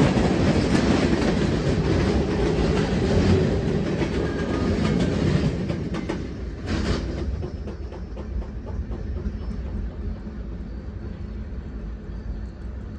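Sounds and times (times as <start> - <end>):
train wheels clacking on rails: 0.0 - 12.9.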